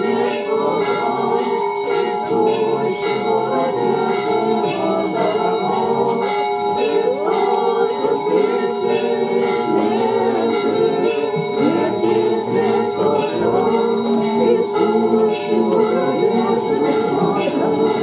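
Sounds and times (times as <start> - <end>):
church bells ringing: 0.0 - 18.0
crowd singing: 0.0 - 18.0.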